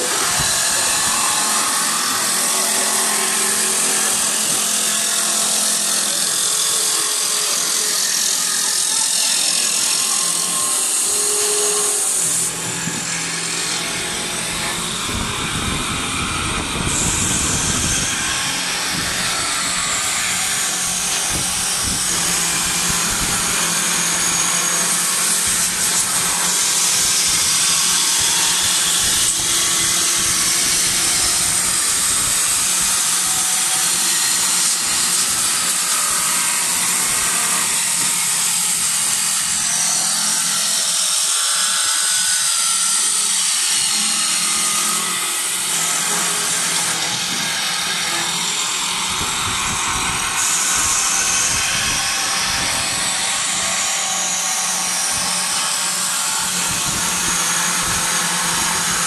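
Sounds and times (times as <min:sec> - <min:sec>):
lathe cutting wood: 0:00.0 - 0:59.0.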